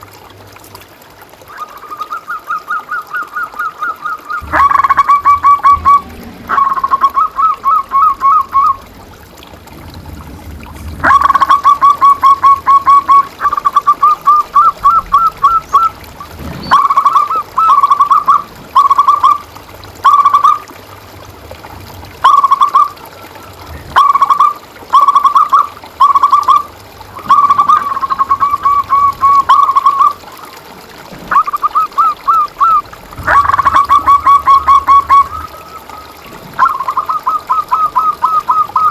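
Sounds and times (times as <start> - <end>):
dove cooing: 1.5 - 38.9.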